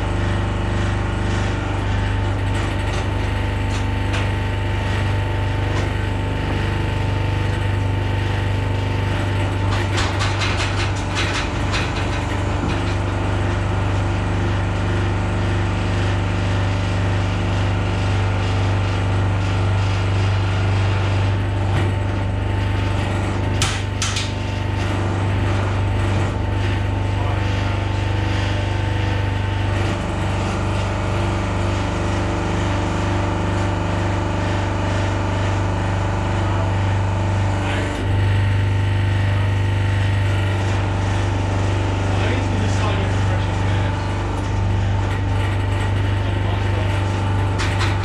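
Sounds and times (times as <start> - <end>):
hydraulic power unit humming: 0.0 - 48.0.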